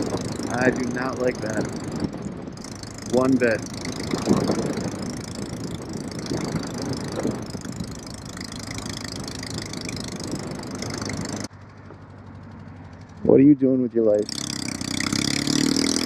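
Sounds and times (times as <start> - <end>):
motorcycle engine misfiring: 0.0 - 13.4, 14.2 - 16.0.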